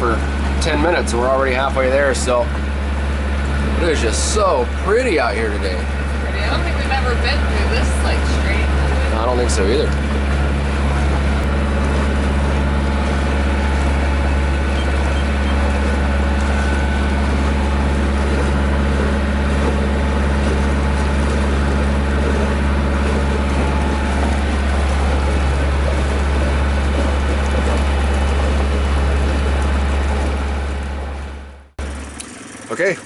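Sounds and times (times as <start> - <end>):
boat diesel engine droning: 0.0 - 33.0.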